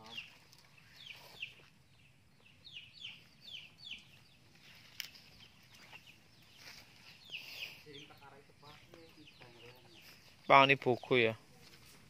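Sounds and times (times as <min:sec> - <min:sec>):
bird chirping faintly: 0:00.0 - 0:11.9.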